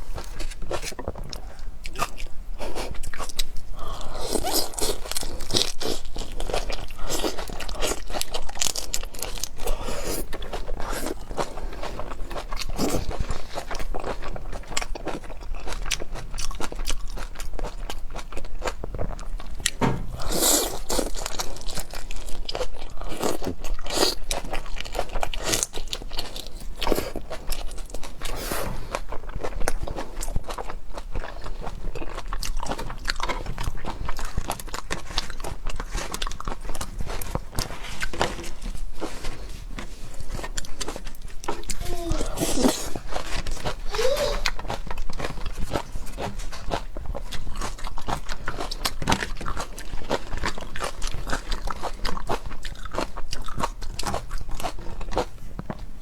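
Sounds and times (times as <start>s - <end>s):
crunchy biting and chewing: 0.1s - 55.8s.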